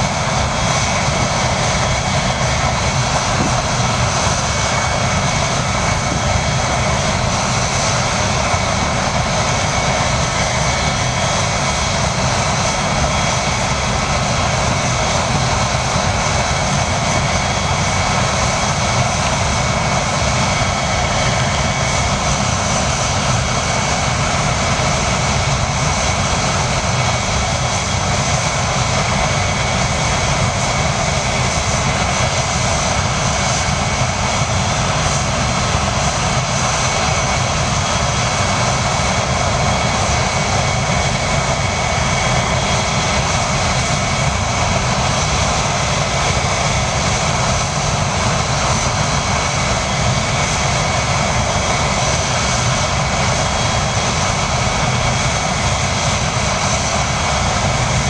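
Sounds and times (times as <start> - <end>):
high-pitched engine whines: 0.0 - 58.0
jet engines roaring: 0.0 - 58.0.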